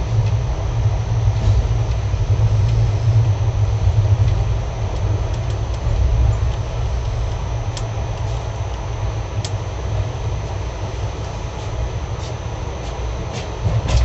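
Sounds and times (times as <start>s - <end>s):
train rumbling on board: 0.0s - 14.0s.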